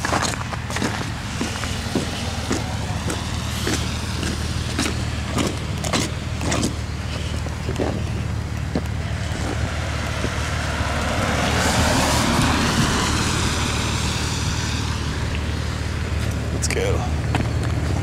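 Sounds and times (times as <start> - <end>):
car engine and road hum: 0.0 - 18.0
tyre and wind noise: 0.0 - 18.0.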